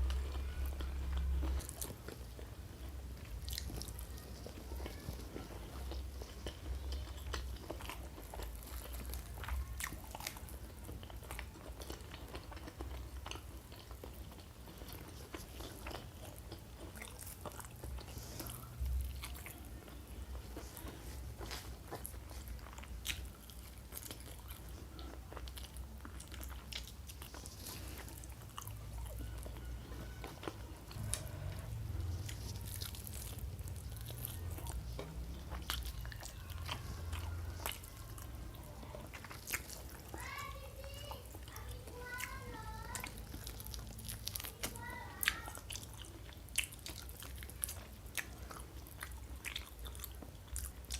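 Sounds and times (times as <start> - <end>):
close chewing and biting: 0.0 - 50.9.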